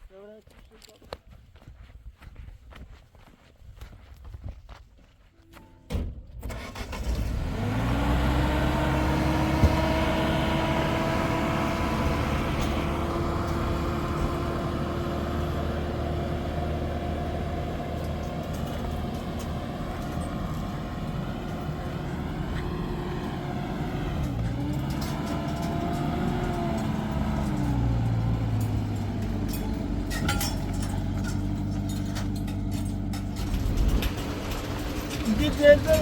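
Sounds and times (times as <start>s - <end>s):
vehicle engine starting and running: 6.3s - 36.0s.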